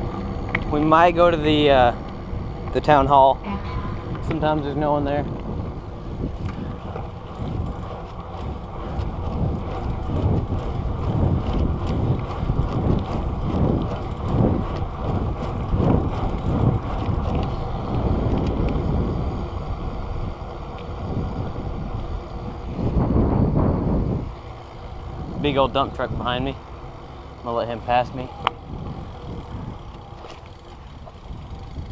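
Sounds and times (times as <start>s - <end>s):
skateboard wheels rolling on pavement: 0.0s - 31.9s
wind buffeting microphone: 0.0s - 31.9s.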